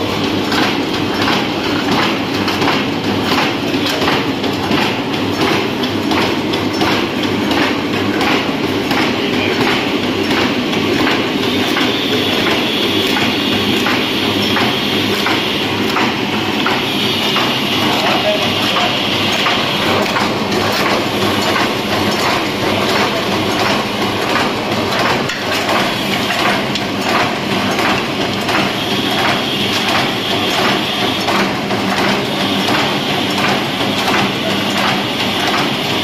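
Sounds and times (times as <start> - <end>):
cutting machine clatter: 0.0 - 36.0.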